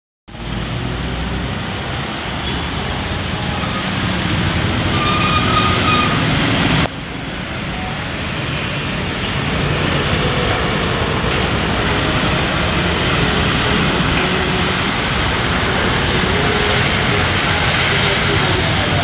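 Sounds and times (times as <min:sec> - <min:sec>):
passing trucks and cars: 0:00.3 - 0:19.0
tyres hissing on wet road: 0:00.3 - 0:19.0.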